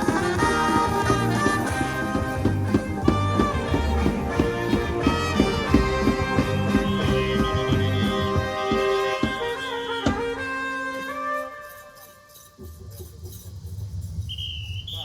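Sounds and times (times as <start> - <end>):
live band playing: 0.0 - 12.2.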